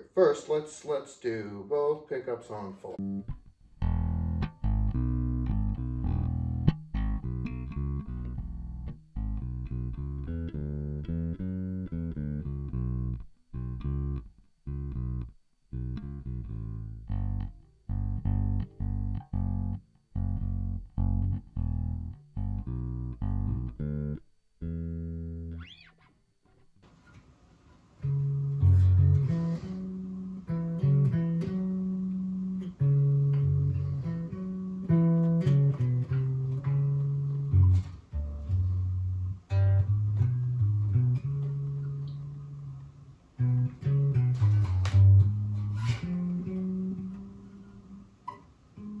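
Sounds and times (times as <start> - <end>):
electric bass plucked notes: 2.6 - 26.7, 28.0 - 49.0.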